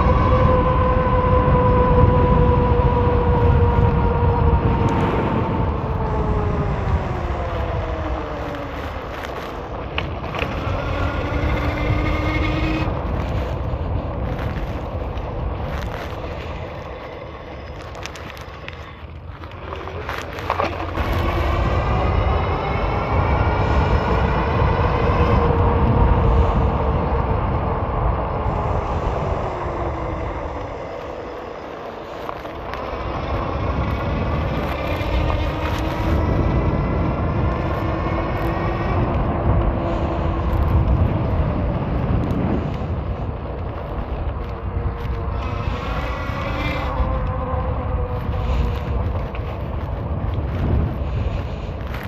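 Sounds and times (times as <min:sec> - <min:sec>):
electric motor whining: 0:00.0 - 0:52.0
tyres rumbling on road: 0:00.0 - 0:52.0
wind buffeting microphone: 0:00.0 - 0:52.0.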